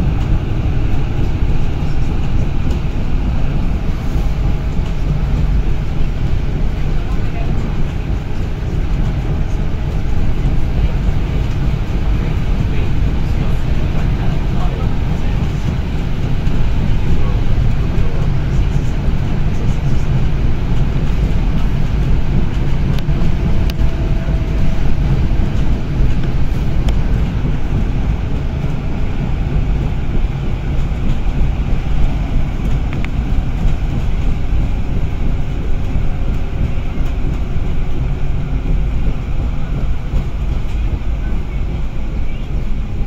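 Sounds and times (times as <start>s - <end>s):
bus engine and tyres rumbling: 0.0s - 43.0s.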